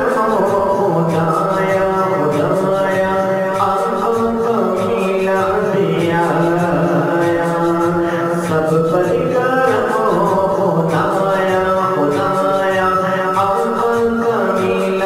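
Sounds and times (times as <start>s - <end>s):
person singing long wavering notes: 0.0s - 15.0s.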